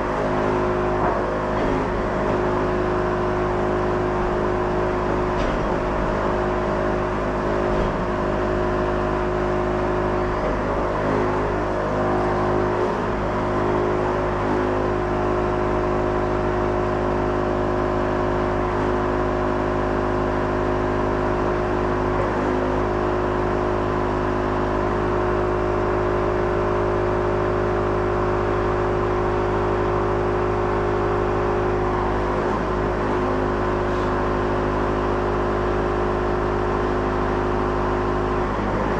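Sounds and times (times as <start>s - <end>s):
bandsaw sawmill running: 0.0s - 38.9s.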